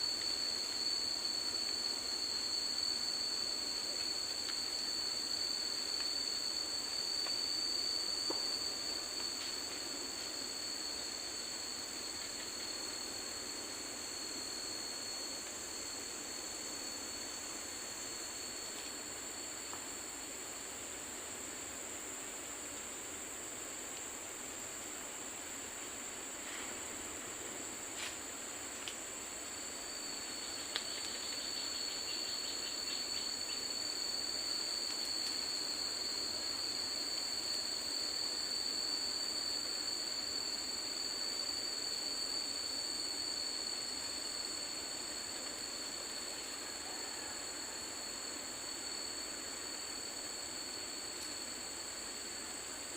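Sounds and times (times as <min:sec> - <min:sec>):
constant hiss: 0:00.0 - 0:52.9
insects droning: 0:00.0 - 0:52.9.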